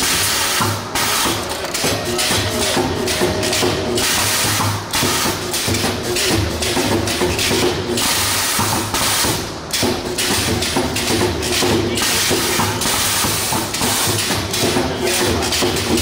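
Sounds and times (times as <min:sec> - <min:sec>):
spot welding machine din: 0:00.0 - 0:16.0
welding heads knocking: 0:00.0 - 0:16.0.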